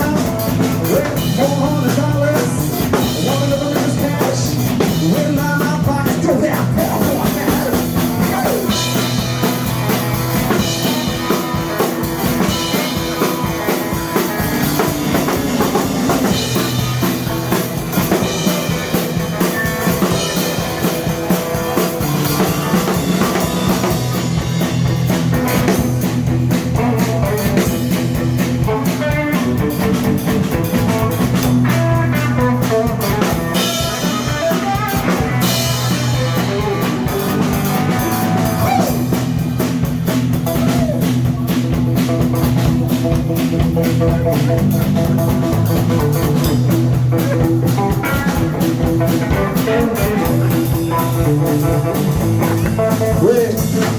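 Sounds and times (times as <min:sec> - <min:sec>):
drum kit beat: 0:00.0 - 0:53.9
electric guitar playing: 0:00.0 - 0:53.9.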